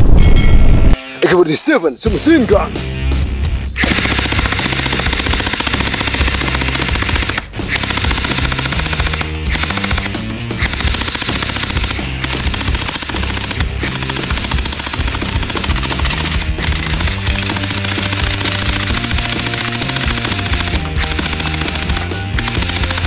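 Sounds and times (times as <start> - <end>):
background music: 0.3 - 23.0
toy gun rapid-fire sound effect: 3.8 - 23.0.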